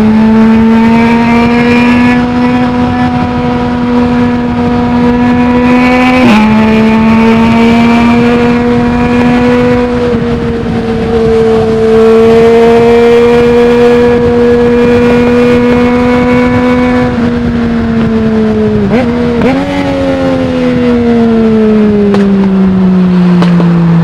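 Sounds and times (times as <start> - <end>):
motorcycle engine cruising: 0.0 - 24.0
wind noise: 0.0 - 24.0.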